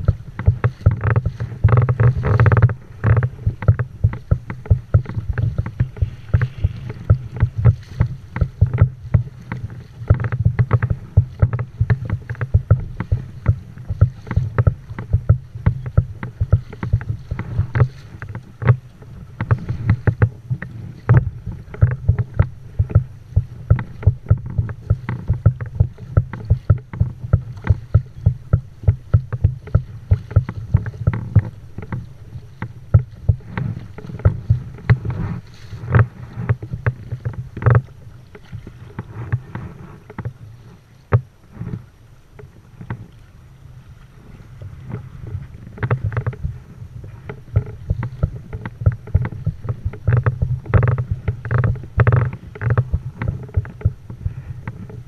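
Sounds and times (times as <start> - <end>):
low rumble of water: 0.0 - 55.0
waves slapping kayak hull: 0.0 - 55.0.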